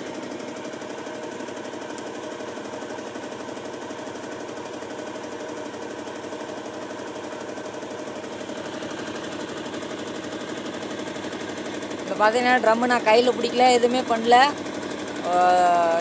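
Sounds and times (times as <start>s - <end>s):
spin dryer whirring and rattling: 0.0s - 16.0s.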